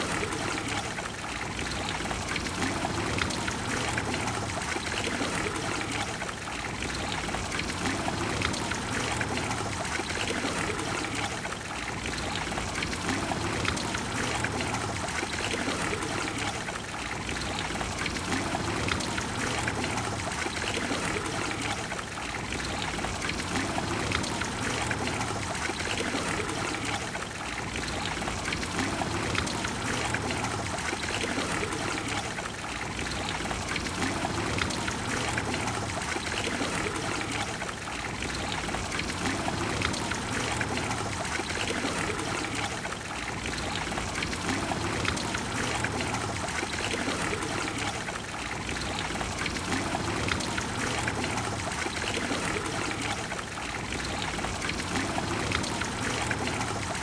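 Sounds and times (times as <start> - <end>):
fountain water splashing into basin: 0.0 - 57.0.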